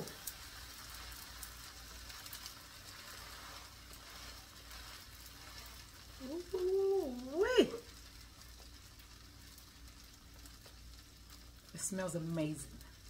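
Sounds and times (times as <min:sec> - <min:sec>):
sandwich sizzling in a pan: 0:00.0 - 0:13.0.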